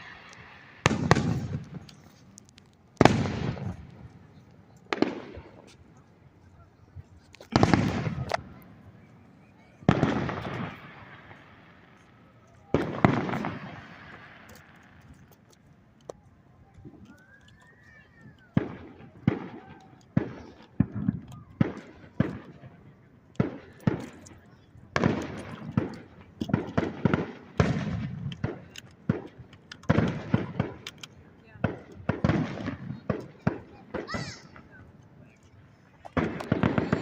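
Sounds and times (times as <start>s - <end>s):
sharp firework cracks: 0.0s - 5.8s, 7.3s - 8.8s, 9.8s - 15.5s, 18.3s - 22.7s, 23.4s - 34.9s, 35.6s - 37.0s
fireworks booming: 0.0s - 6.0s, 7.0s - 15.4s, 18.3s - 37.0s.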